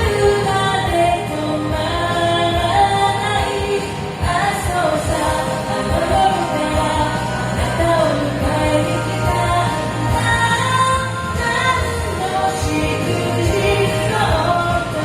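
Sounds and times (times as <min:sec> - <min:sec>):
song with vocals over a beat: 0:00.0 - 0:15.0.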